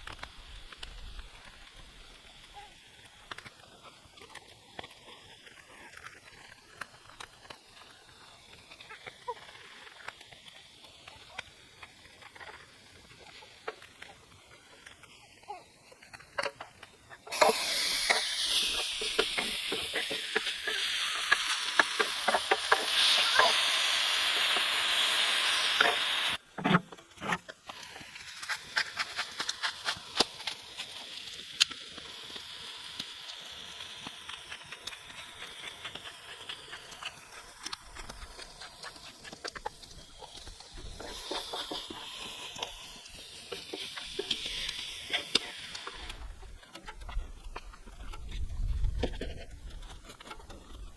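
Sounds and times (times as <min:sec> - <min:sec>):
food sizzling on a griddle: 0:00.0 - 0:26.4, 0:27.0 - 0:48.4.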